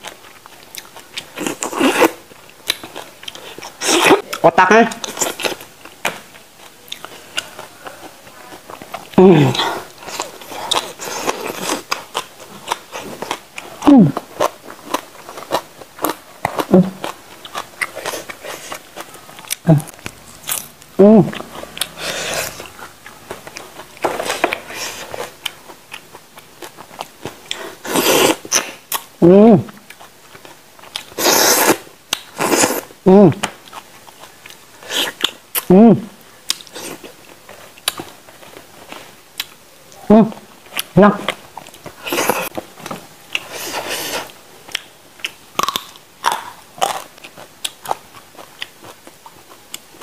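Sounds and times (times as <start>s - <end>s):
biting and chewing: 4.9s - 35.7s, 40.5s - 50.0s.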